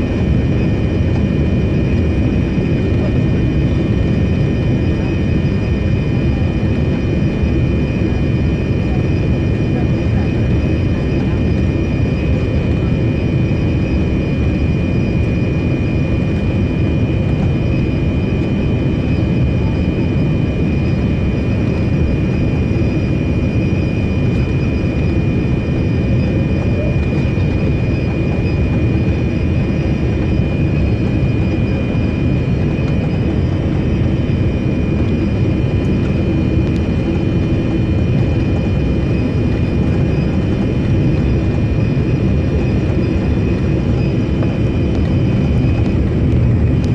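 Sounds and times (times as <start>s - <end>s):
airplane cabin engine rush: 0.0s - 46.9s.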